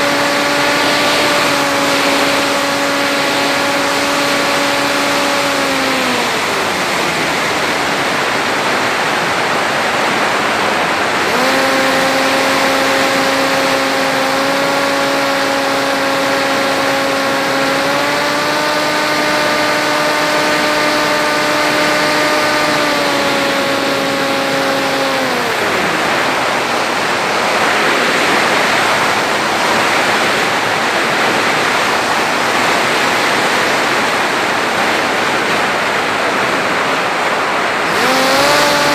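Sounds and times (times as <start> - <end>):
electric motor and propeller whining: 0.0 - 38.9.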